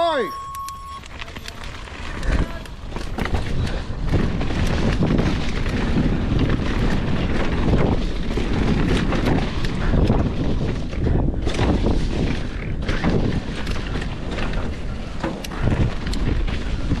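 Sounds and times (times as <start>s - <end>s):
bike rattling: 0.0s - 17.0s
tyres on dirt and rock: 0.0s - 17.0s
wind rumbling on microphone: 0.8s - 17.0s.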